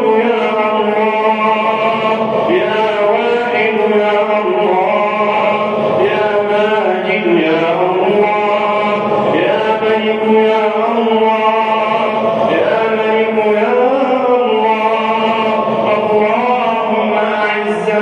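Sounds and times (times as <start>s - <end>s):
steady low drone: 0.0s - 18.0s
voice chanting: 0.0s - 18.0s.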